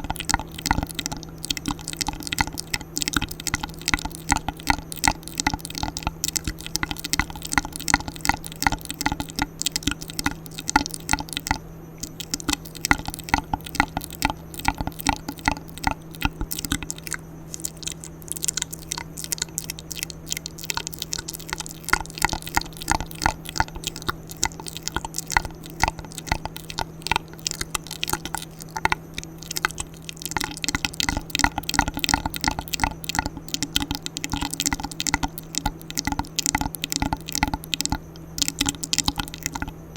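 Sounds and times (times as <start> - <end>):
steady low hum: 0.0 - 39.9
wet mouth clicks and smacks: 0.0 - 39.9.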